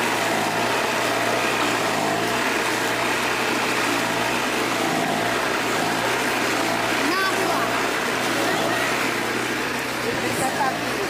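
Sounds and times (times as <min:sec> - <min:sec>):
grating machine engine drone: 0:00.0 - 0:11.0.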